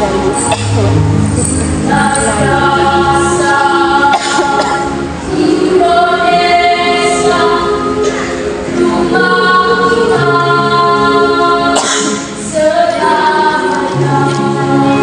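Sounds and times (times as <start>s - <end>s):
choir singing in parts: 1.4s - 15.0s.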